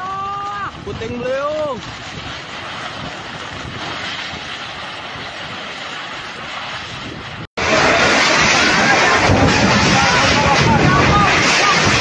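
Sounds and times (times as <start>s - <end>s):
wind rushing: 0.0s - 12.0s.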